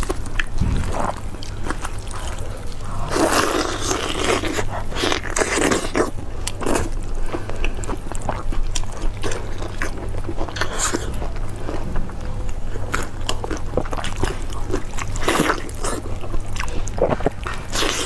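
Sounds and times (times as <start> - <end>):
chewing with wet clicks: 1.8 - 18.0.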